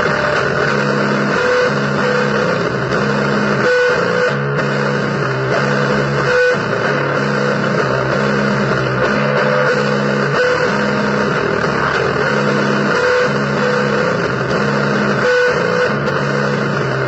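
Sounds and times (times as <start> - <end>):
blues guitar riff: 0.0 - 17.0.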